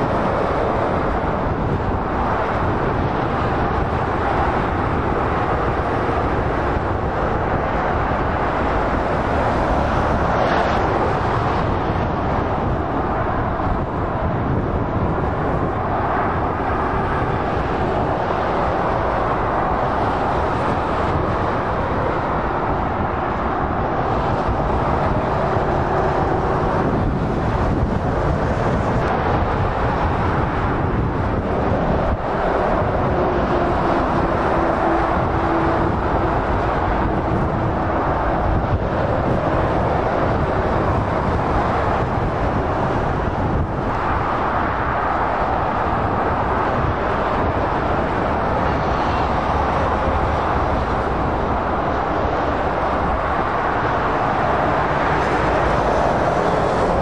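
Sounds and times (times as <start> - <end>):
motorway traffic rushing: 0.0 - 57.0.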